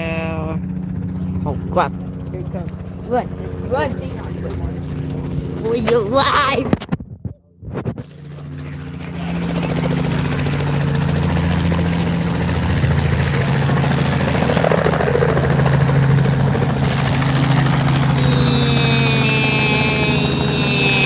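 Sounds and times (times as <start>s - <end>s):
helicopter rotor chop and engine: 0.0s - 21.0s.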